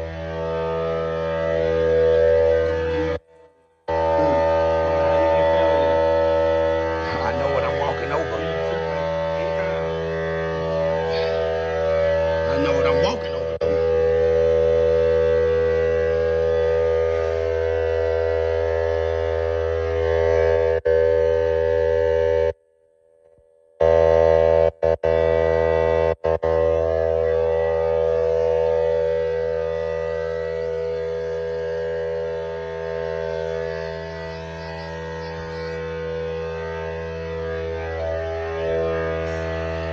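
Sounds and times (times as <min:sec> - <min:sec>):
machine humming: 0:00.0 - 0:22.6, 0:23.8 - 0:39.9.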